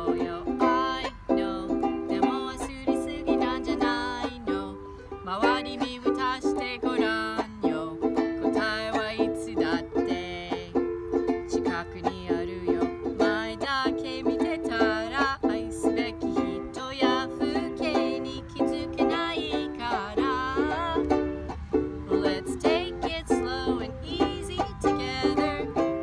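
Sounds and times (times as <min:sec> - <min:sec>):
person singing: 0:00.0 - 0:21.4, 0:22.0 - 0:26.0
banjolele strummed chords: 0:00.0 - 0:26.0.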